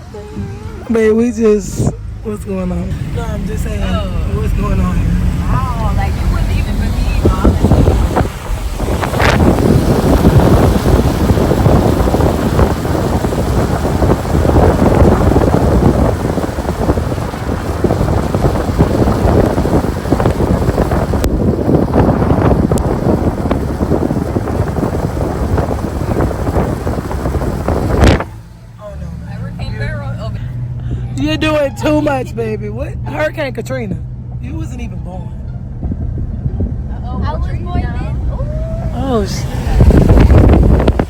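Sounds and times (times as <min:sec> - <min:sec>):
wind buffeting microphone: 0:00.0 - 0:33.5, 0:34.2 - 0:41.0.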